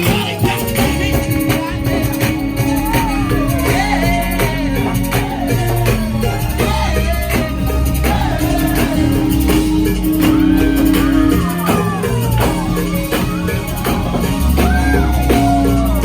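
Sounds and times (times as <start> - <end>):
bending melodic line: 0.0 - 16.0
drums: 0.0 - 16.0
live gospel band music: 0.0 - 16.0.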